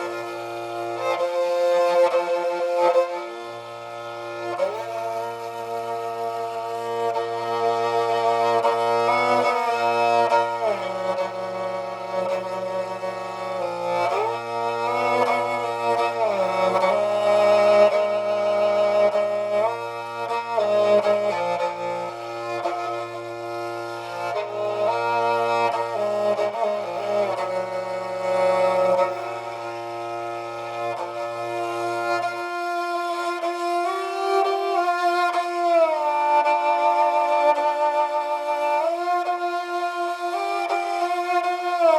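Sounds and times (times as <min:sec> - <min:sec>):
bowed fiddle melody: 0:00.0 - 0:41.9.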